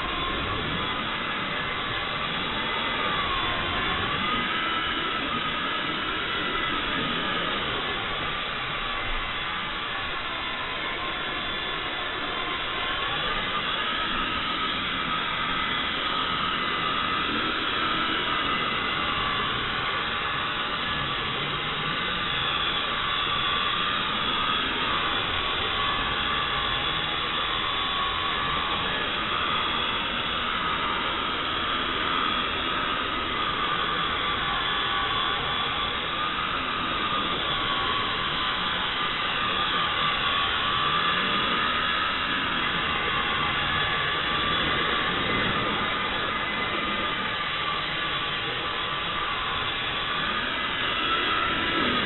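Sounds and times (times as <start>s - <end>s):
toy helicopter rotor whining: 0.0s - 52.0s.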